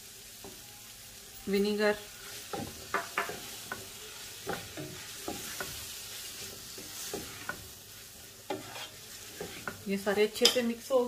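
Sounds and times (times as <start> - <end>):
faint vegetables sizzling: 0.0 - 11.0
wooden spoon scraping a pan: 1.6 - 10.8.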